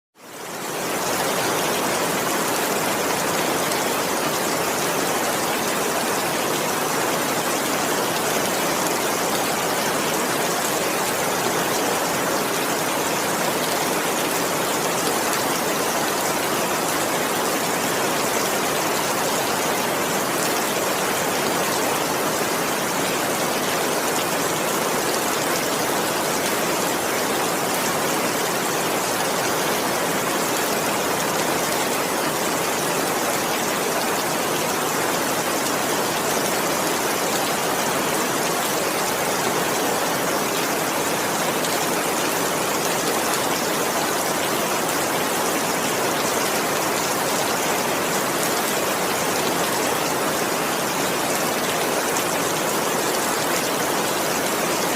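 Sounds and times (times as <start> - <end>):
heavy rain falling: 0.2 - 54.9.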